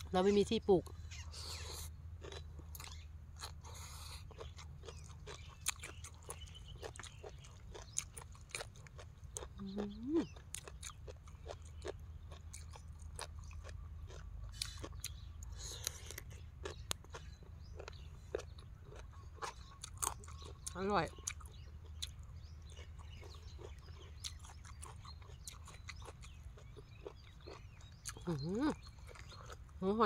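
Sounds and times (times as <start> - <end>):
person chewing crunchy food: 0.8 - 30.0.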